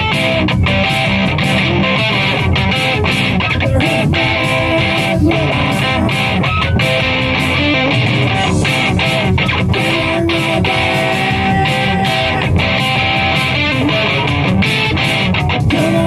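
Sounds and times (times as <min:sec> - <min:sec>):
live music with electric guitar: 0:00.0 - 0:16.0.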